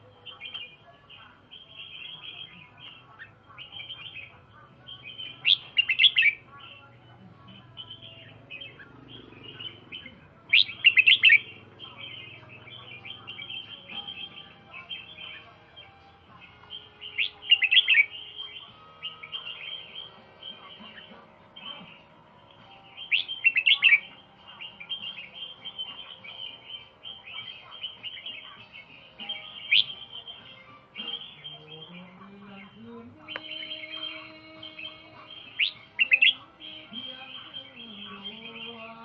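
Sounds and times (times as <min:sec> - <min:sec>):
songbird twittering: 0:00.0 - 0:39.0.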